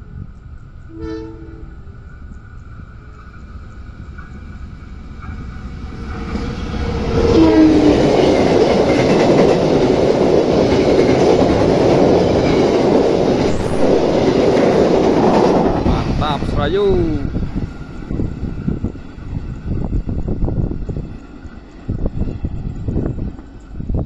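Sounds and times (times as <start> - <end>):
diesel locomotive passing: 0.0 - 24.0
train wheels clattering over rails: 3.7 - 23.7.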